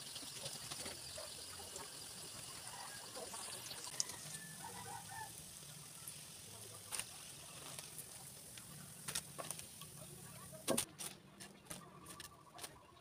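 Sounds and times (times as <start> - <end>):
oil sizzling while deep-frying: 0.0 - 10.8.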